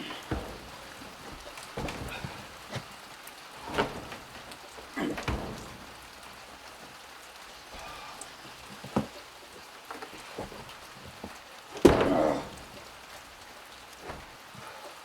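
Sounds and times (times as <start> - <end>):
sharp knocks: 0.0 - 14.6
steady rain falling: 0.0 - 15.0.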